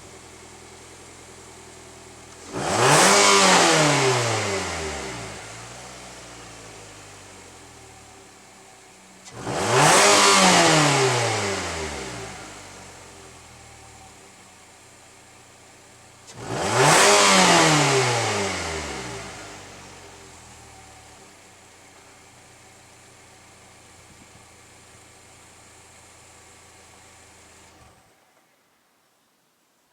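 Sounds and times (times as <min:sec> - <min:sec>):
car engine idling and revving: 0:00.0 - 0:28.2.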